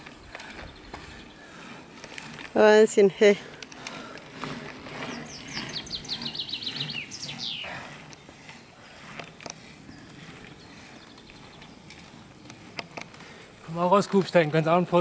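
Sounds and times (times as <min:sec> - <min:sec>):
songbird singing: 0:00.0 - 0:14.3
faint outdoor background: 0:00.0 - 0:15.0.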